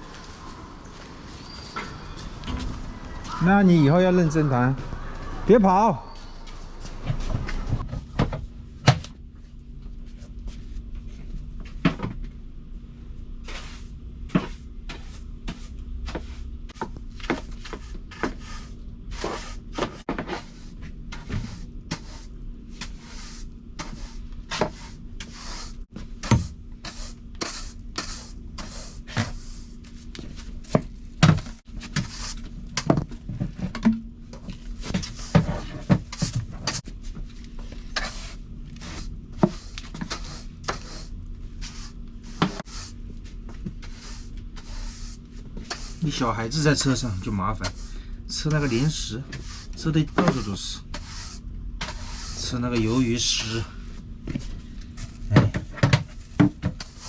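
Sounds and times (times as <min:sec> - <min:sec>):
steady low hum: 0:06.2 - 0:57.0.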